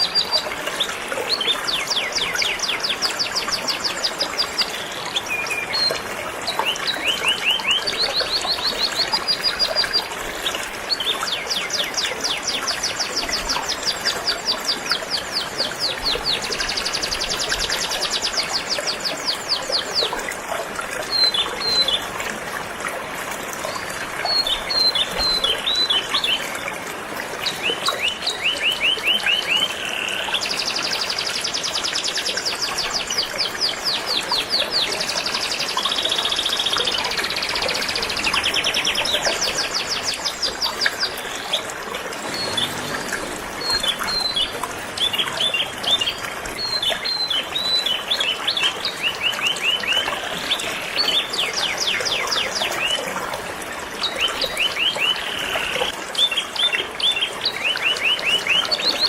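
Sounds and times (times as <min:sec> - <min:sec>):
stream of water running: 0:00.0 - 0:59.0.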